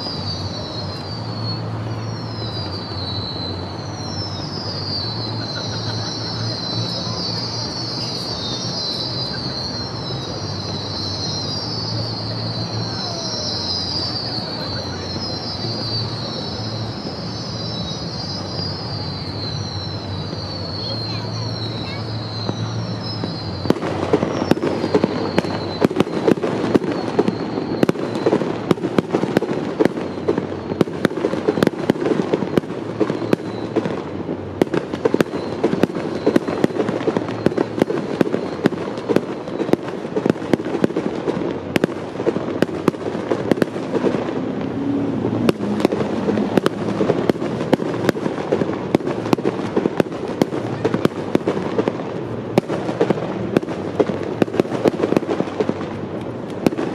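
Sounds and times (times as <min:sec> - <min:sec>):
fireworks bursting and crackling: 0:00.0 - 0:56.9
sharp loud firework bangs: 0:00.0 - 0:56.9.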